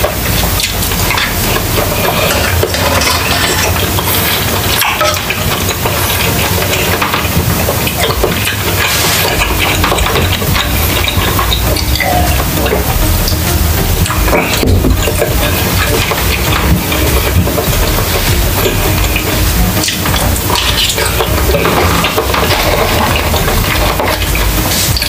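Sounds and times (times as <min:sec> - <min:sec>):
metal spoon scraping a pot: 0:00.0 - 0:25.0
steady sizzling hiss: 0:00.0 - 0:25.0.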